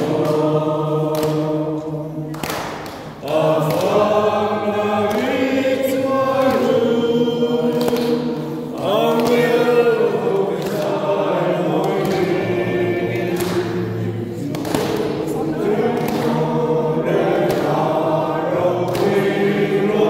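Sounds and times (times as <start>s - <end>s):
group singing long notes: 0.0s - 20.0s.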